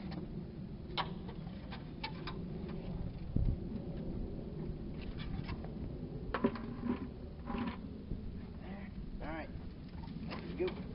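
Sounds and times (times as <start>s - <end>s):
low background rumble: 0.0s - 10.9s.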